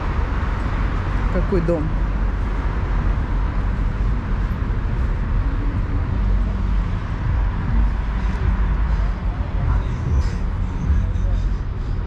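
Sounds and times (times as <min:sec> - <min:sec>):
city street traffic: 0:00.0 - 0:12.0
deep traffic rumble: 0:00.0 - 0:12.0.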